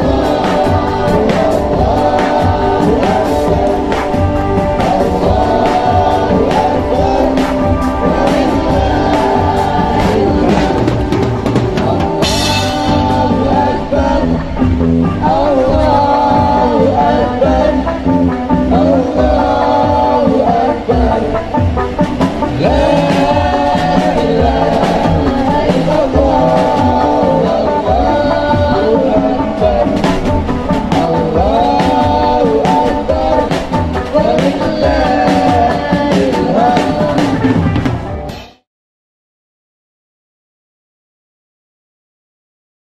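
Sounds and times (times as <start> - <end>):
drum beats: 0.0 - 38.6
live band playing: 0.0 - 38.6
person singing: 0.0 - 38.6
guitar: 0.0 - 38.7.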